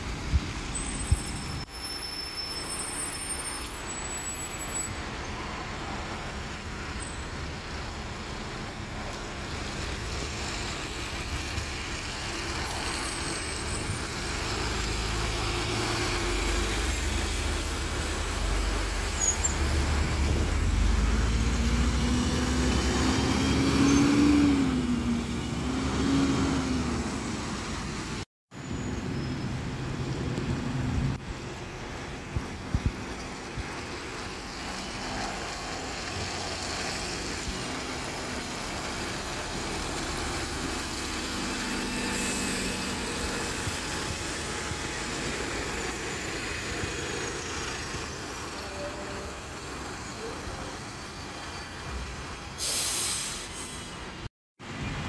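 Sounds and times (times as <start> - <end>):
bus running quietly: 0.0 - 55.0
bus engine driving past: 0.1 - 55.0.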